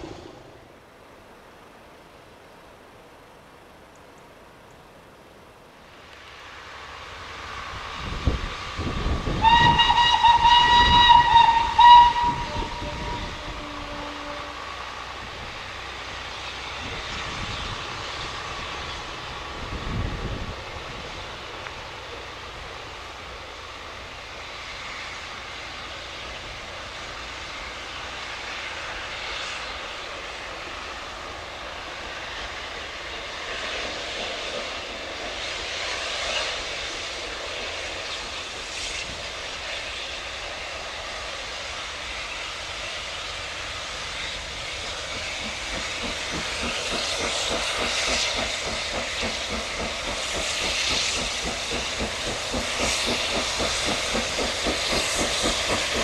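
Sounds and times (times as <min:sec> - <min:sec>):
steam hissing: 0:00.0 - 0:00.7, 0:05.9 - 0:56.0
steam locomotive exhaust chuffs: 0:06.0 - 0:56.0.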